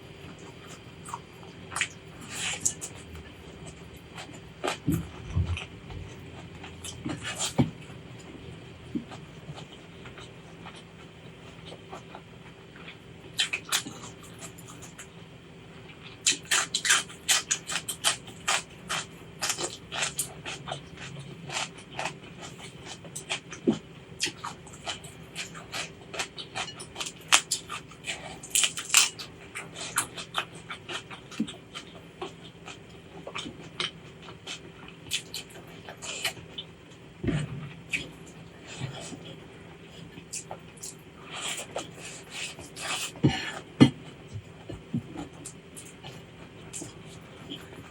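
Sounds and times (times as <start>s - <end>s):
person chewing crisply: 0.0s - 15.2s, 15.9s - 47.9s.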